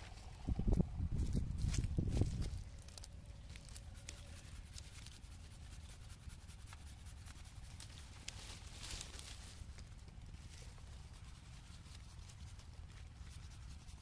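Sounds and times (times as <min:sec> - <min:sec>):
dry leaves and twigs crackling: 0:00.0 - 0:14.0
low steady rumble: 0:00.0 - 0:14.0.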